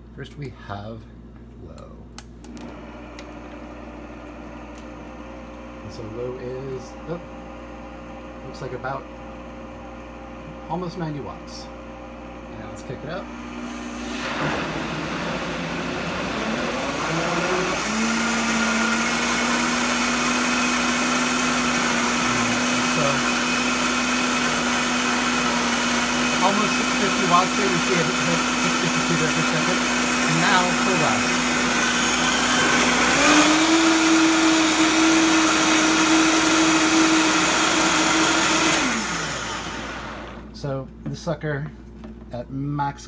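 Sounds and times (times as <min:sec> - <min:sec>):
blender motor churning water: 0:02.6 - 0:40.5.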